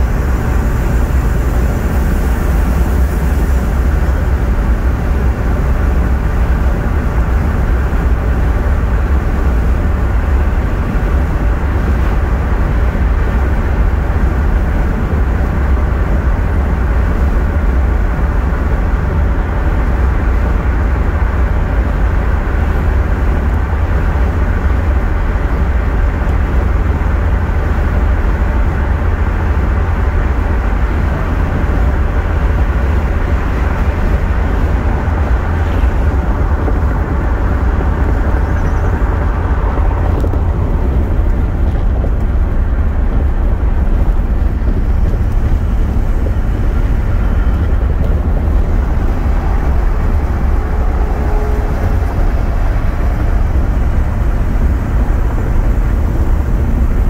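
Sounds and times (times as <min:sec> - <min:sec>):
car interior highway rumble: 0:00.0 - 0:57.0.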